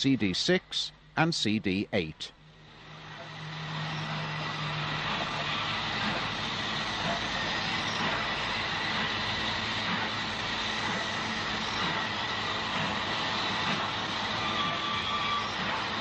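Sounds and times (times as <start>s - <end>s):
train wheels on rails: 2.5s - 16.0s.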